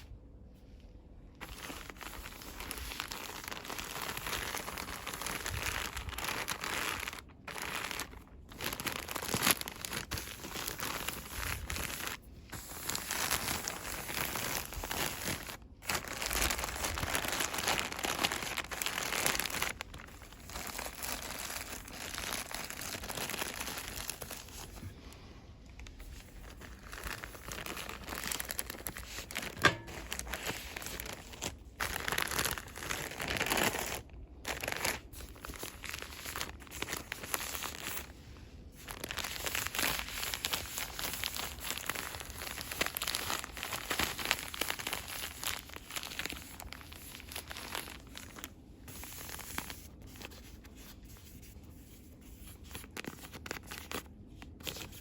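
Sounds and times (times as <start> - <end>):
packaging crinkling and rustling: 1.3 - 55.0.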